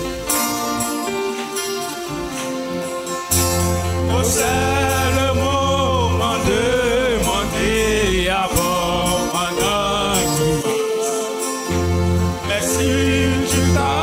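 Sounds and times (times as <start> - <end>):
gospel hymn music: 0.0 - 14.0.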